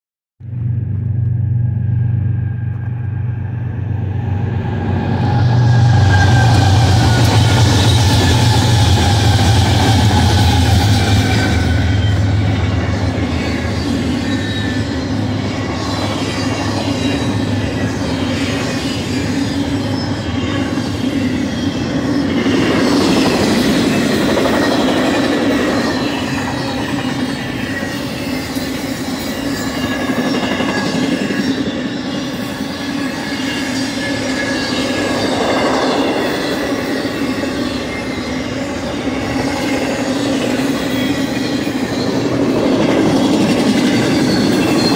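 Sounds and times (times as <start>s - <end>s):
diesel locomotives passing: 0.4s - 44.9s
high-pitched wheel squeal: 1.6s - 44.9s.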